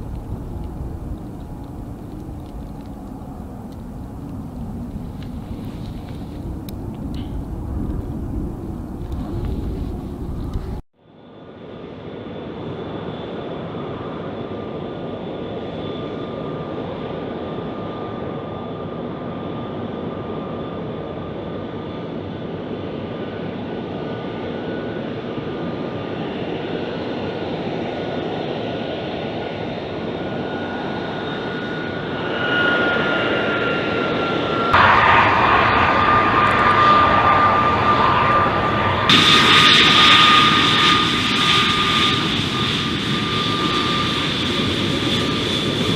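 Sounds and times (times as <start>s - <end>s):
jet engine rumble and turbine whine: 0.0s - 45.9s.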